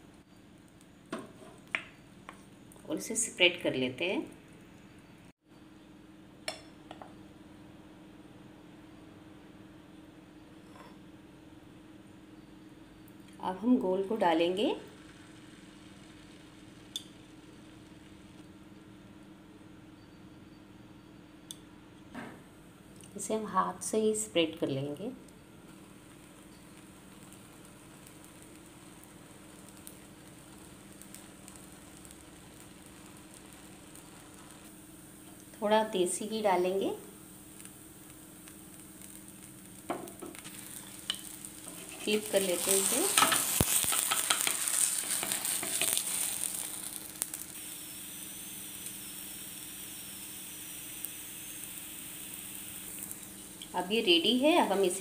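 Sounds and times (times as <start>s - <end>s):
batter sizzling in ghee: 0.0s - 7.4s, 9.4s - 21.6s, 22.8s - 55.0s
low steady hum: 0.0s - 55.0s.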